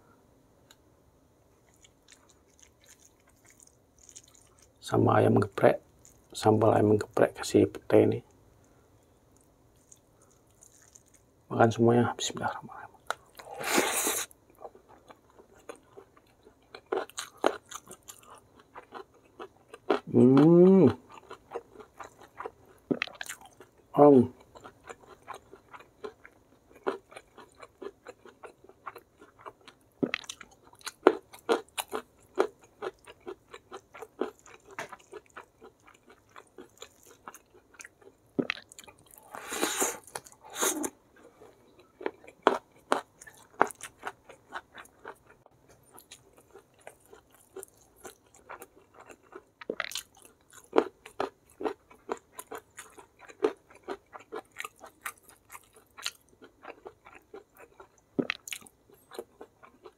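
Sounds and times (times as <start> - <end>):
chewing food: 1.6 - 6.5, 9.3 - 11.3, 12.7 - 59.9.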